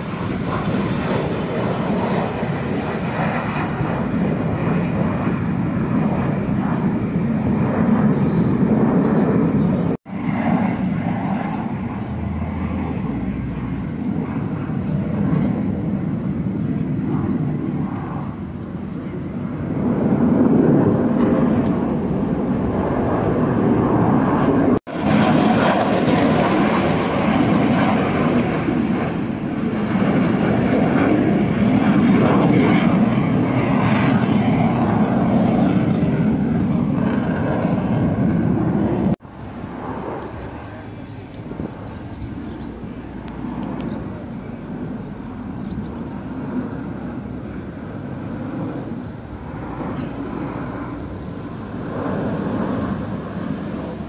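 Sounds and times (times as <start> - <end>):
aircraft engine roar: 0.0 - 54.0.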